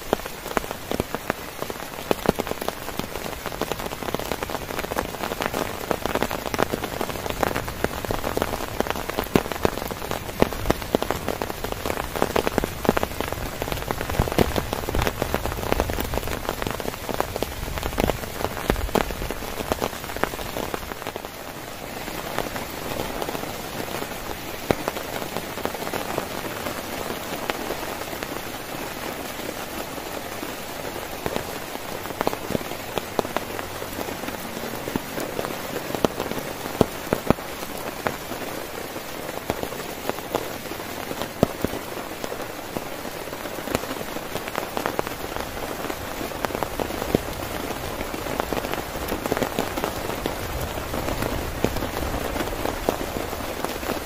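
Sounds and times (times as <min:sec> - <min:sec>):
heavy rain on a tent: 0:00.0 - 0:54.0
raindrops tapping: 0:00.0 - 0:54.0.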